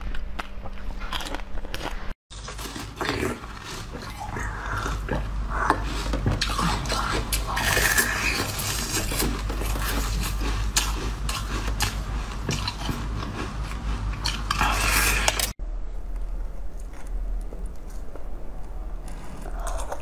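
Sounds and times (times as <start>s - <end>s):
ice being bitten and chewed: 0.0s - 15.5s, 16.1s - 20.0s.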